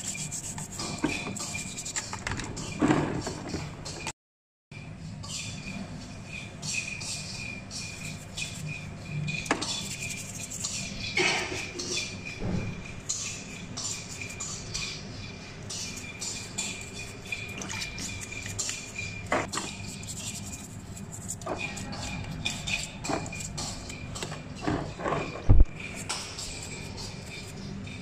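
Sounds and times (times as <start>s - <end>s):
toothbrush scrubbing crab shell: 0.0s - 2.8s, 5.2s - 12.4s, 13.1s - 24.6s, 25.8s - 28.0s.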